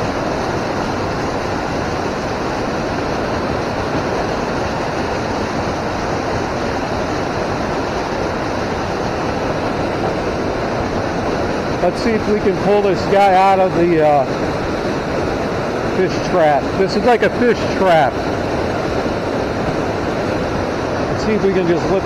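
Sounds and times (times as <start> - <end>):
river water pouring over spillway: 0.0 - 22.0.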